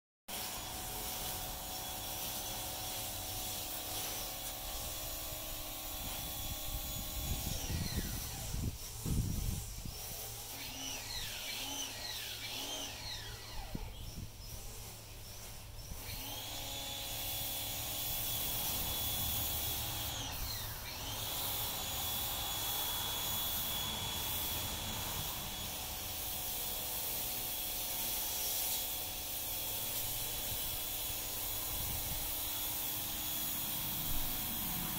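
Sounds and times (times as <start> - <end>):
machine motor whining: 0.4 - 34.9.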